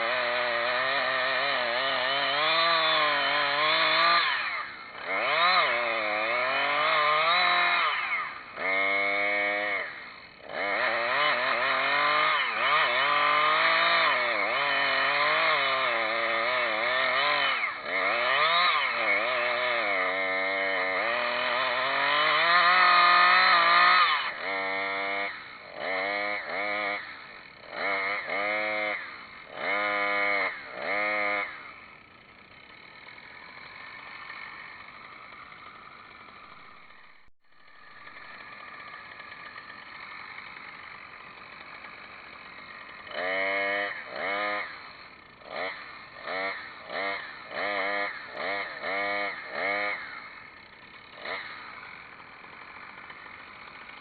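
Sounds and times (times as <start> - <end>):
chainsaw cutting wood: 0.0 - 54.0
chainsaw idling: 0.0 - 54.0
chainsaw throttle revs: 0.0 - 54.0.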